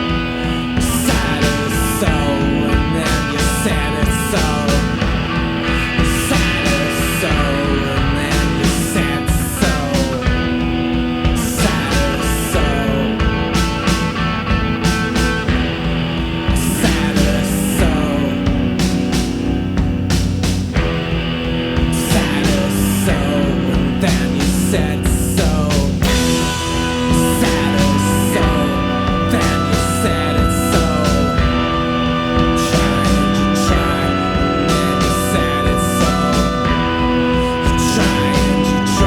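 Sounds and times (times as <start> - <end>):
indie rock band playing: 0.0 - 39.0.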